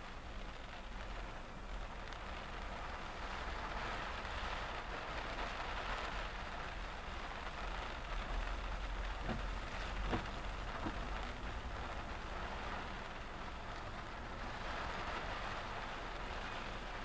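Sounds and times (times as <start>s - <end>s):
engine and road rumble: 0.0s - 17.0s
rain hissing on car: 0.0s - 17.0s.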